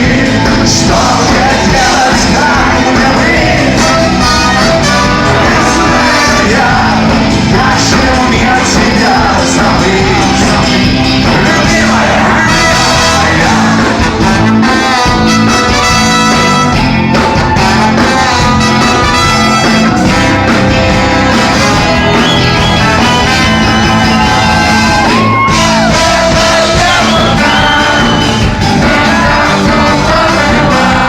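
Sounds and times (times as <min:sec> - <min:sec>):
person singing: 0:00.0 - 0:16.2, 0:17.2 - 0:23.6, 0:24.3 - 0:31.0
live band playing loud music: 0:00.0 - 0:31.0.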